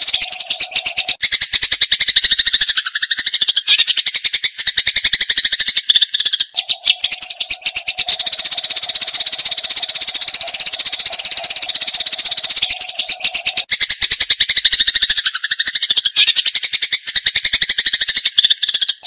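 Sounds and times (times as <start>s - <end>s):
sparrow chattering: 0.0s - 19.0s.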